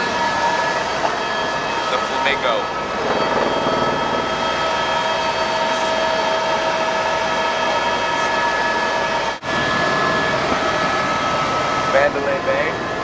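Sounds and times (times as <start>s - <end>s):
helicopter turbine and rotor drone: 0.0s - 13.0s.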